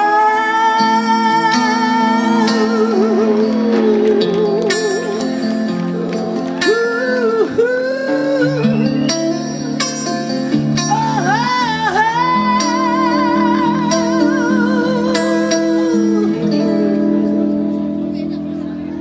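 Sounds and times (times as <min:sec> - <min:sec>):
wavering melody with vibrato: 0:00.0 - 0:18.7
live band playing pop ballad: 0:00.0 - 0:19.0
sustained guitar chords: 0:00.0 - 0:19.0.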